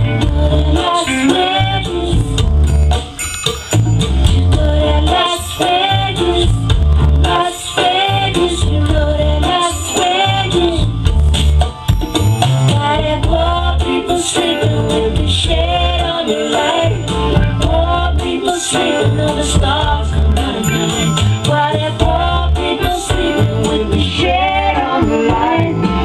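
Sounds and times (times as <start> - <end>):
rhythmic bass line: 0.0 - 26.0
song over loudspeakers: 0.0 - 26.0.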